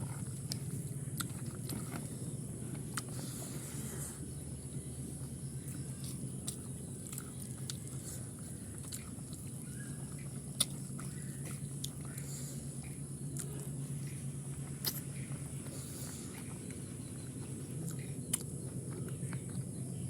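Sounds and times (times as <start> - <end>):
person chewing food: 0.0 - 20.0
steady low hum: 0.0 - 20.0.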